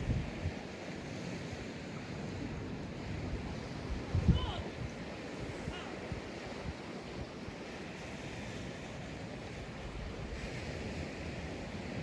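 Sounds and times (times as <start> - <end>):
wind buffeting microphone: 0.0 - 0.8, 2.4 - 12.0
surf breaking on a beach: 0.0 - 12.0.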